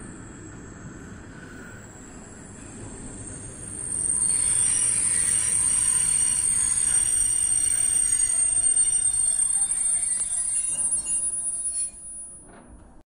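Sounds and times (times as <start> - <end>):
train running rumble: 0.0 - 11.4
train wheels squealing: 0.0 - 12.8.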